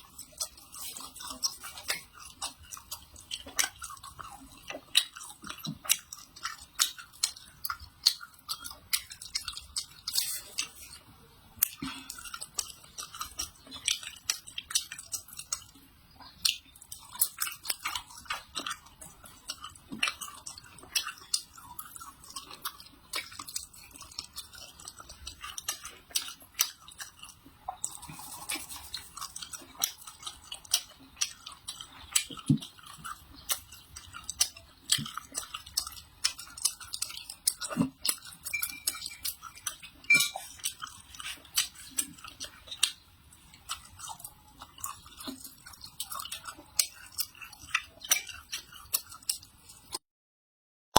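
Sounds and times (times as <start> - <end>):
crunchy food chewing: 0.0 - 50.0.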